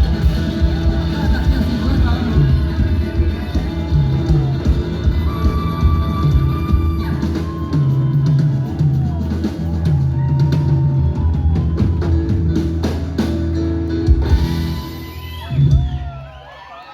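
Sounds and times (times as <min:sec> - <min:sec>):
drum kit beat: 0:00.0 - 0:16.2
guitar: 0:00.0 - 0:16.8.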